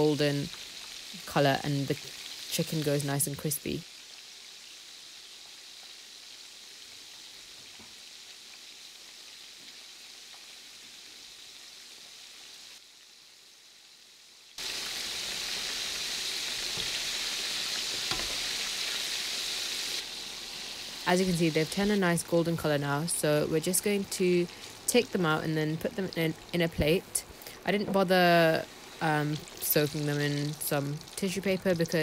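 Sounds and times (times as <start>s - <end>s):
chicken deep-frying in oil: 0.0s - 32.0s.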